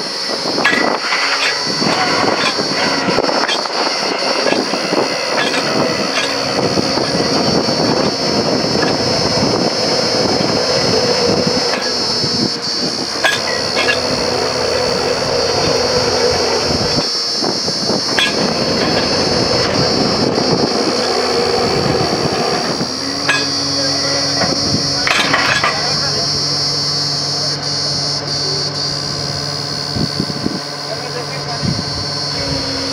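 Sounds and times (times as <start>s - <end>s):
drilling rig running: 0.0s - 32.9s.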